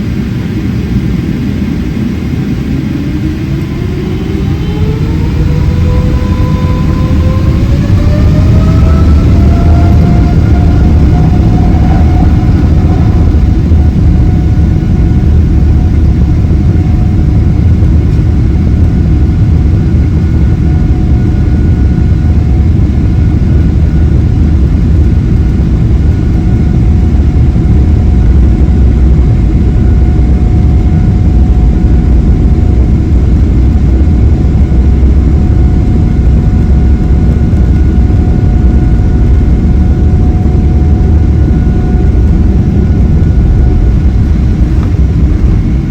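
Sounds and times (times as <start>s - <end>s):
fan whine: 0.0s - 45.9s
jet engine low rumble: 0.0s - 45.9s.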